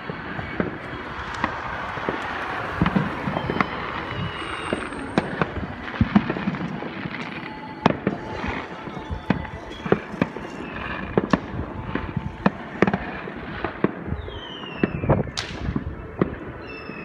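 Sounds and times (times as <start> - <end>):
firework whistle falling: 0.0 - 17.0
fireworks banging: 0.0 - 17.0.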